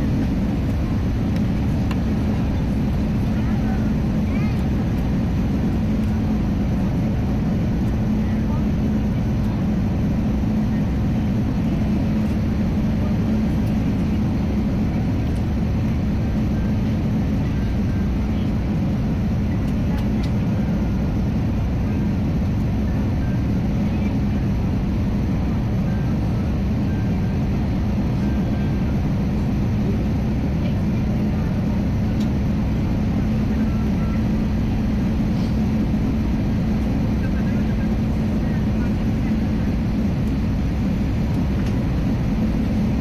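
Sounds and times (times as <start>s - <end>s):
airliner cabin engine and airflow noise: 0.0s - 43.0s
constant low hum: 0.0s - 43.0s.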